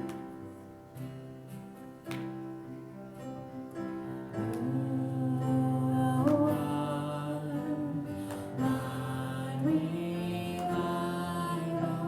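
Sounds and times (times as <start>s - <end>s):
strummed acoustic guitar worship music: 0.0s - 12.0s.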